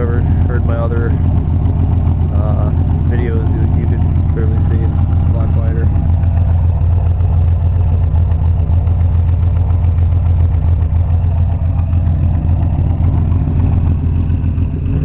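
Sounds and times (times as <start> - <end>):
car exhaust idling: 0.0 - 15.0.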